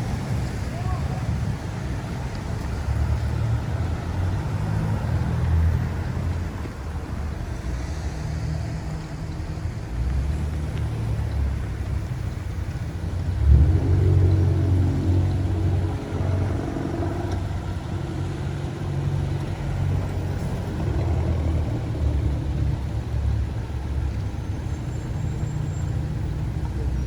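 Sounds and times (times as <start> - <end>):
street traffic engines: 0.0 - 27.0
vehicle approaching with hum: 0.0 - 27.0.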